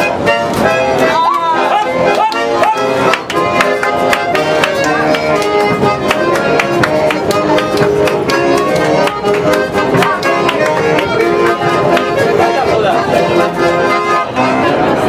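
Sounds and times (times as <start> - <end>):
accordion: 0.0 - 15.0.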